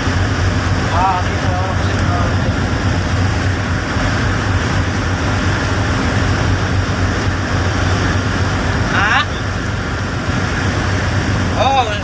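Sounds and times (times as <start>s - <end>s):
boat engine drone: 0.0s - 12.0s
wind and water rushing: 0.0s - 12.0s.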